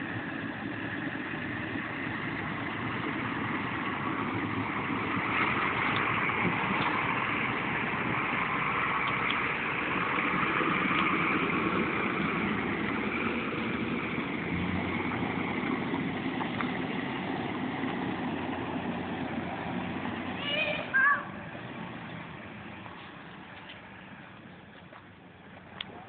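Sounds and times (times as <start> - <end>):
pickup truck engine running: 0.0 - 26.0.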